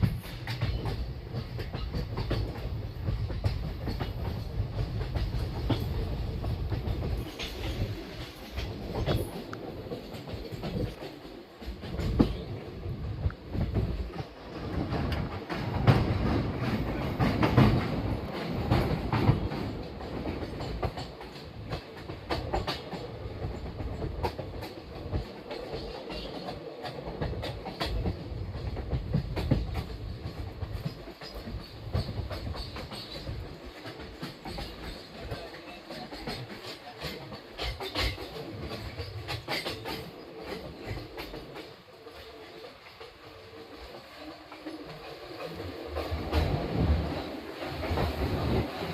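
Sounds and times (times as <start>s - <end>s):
train rumbling: 0.0s - 48.9s
wheels clattering over rail joints: 0.0s - 48.9s.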